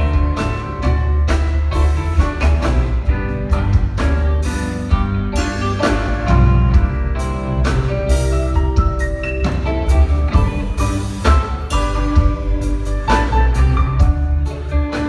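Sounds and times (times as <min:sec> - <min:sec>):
drum kit steady beat: 0:00.0 - 0:15.0
electric bass: 0:00.0 - 0:15.0
electric guitars: 0:00.0 - 0:15.0
keyboards: 0:00.0 - 0:15.0.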